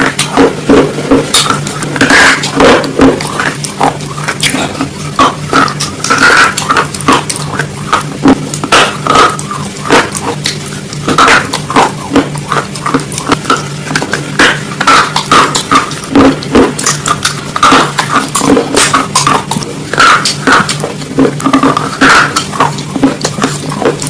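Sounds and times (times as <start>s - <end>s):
chewing crunchy salad: 0.0s - 24.0s.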